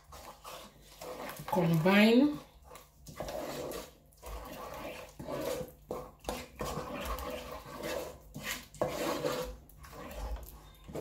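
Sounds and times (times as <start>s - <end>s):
wooden spoon scraping thick paste: 0.0s - 11.0s.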